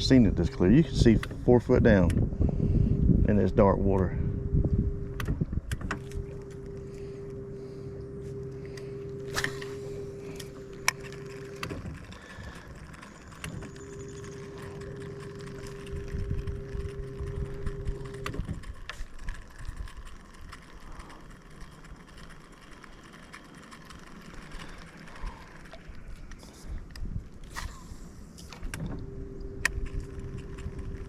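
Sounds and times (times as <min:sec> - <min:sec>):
electric motor whine: 0:00.0 - 0:31.0.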